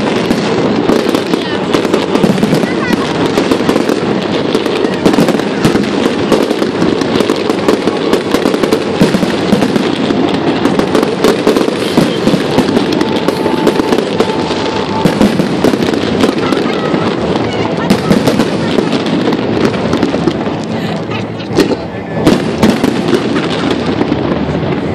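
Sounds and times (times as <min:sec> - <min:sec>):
fireworks popping and crackling: 0:00.0 - 0:24.9.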